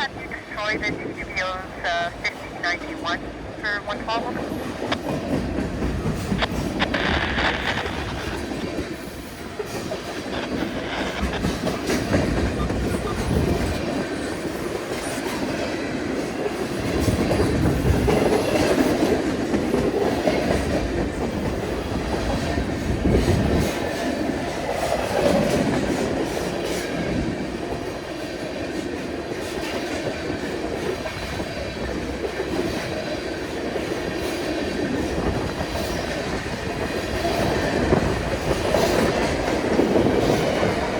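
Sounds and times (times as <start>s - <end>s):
freight train cars rolling: 0.0s - 40.9s
steel wheel and rail noise: 0.0s - 40.9s.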